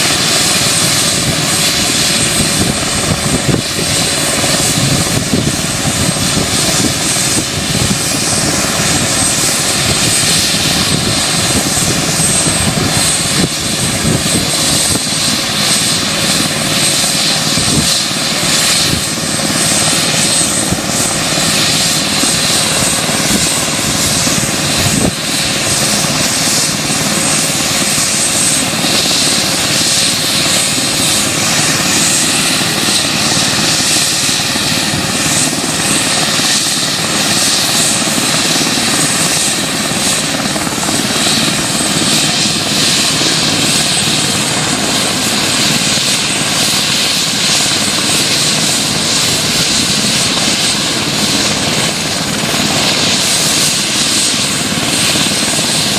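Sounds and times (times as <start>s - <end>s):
helicopter engines and rotor: 0.0s - 55.9s.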